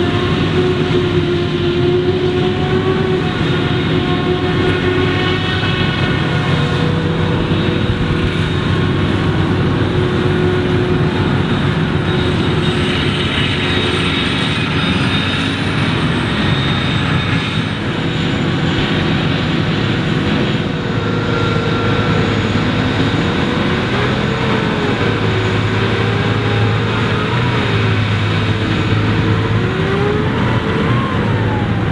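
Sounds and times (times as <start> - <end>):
harvester engine under load: 0.0 - 31.9
wandering pitched tone: 0.0 - 31.9.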